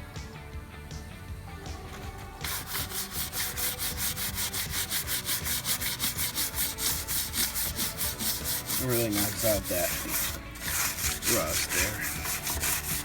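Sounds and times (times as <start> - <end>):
brush scrubbing a metal rim: 1.9 - 13.0.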